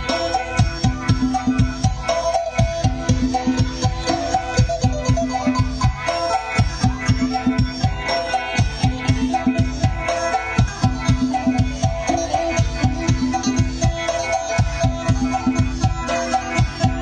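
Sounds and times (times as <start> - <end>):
fast steady drum beat: 0.0 - 17.0.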